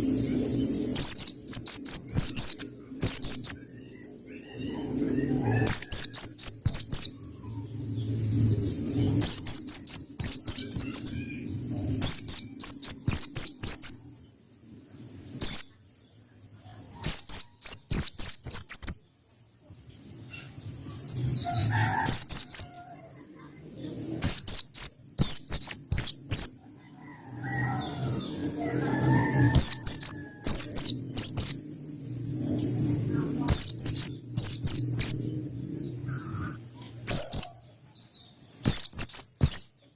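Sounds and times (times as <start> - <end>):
bird singing sharp chirps: 0.0 - 14.3, 15.2 - 16.2, 17.0 - 19.0, 19.8 - 26.6, 27.5 - 39.9
faint low rumble: 0.0 - 39.9.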